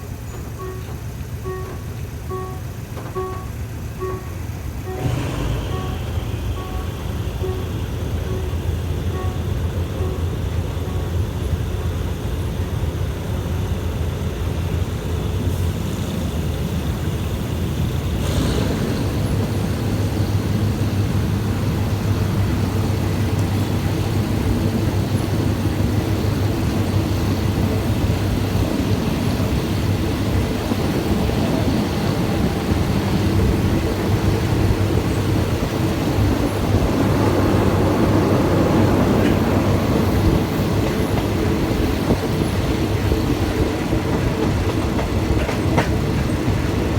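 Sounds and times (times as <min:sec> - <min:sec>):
diesel train rumbling: 0:00.0 - 0:46.9.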